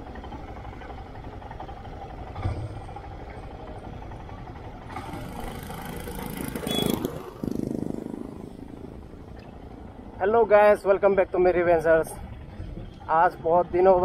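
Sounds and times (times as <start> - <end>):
vehicle engine running: 0.0 - 13.0
road and wind noise: 0.0 - 14.0.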